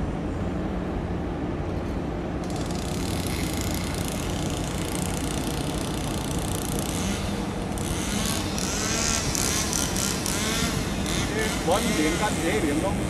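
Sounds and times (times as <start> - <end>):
broad rushing noise: 0.0 - 13.0
ship engine low hum: 0.0 - 13.0.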